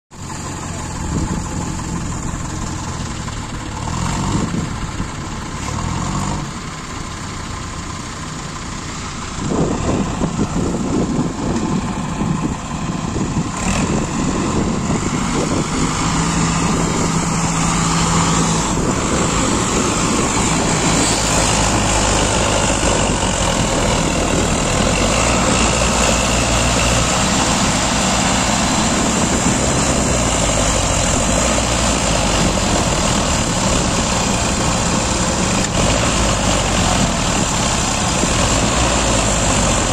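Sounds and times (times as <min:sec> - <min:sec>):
diesel tractor engines straining: 0:00.1 - 0:39.9.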